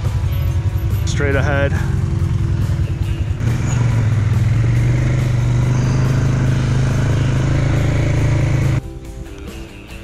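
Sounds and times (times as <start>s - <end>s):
atv engine running: 0.0s - 8.8s.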